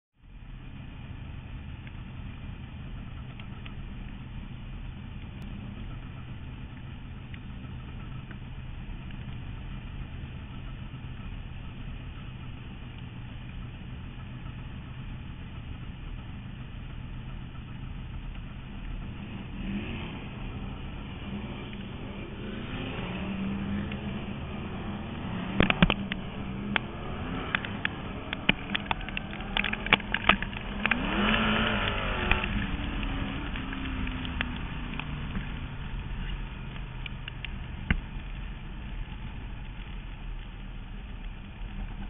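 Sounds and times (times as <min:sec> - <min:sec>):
race car engine running: 0:00.2 - 0:42.0.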